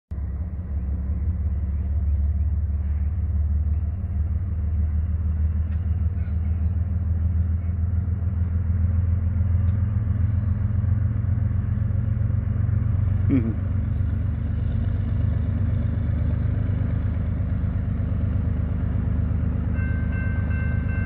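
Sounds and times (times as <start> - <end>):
diesel locomotive rumbling: 0.1 - 21.0.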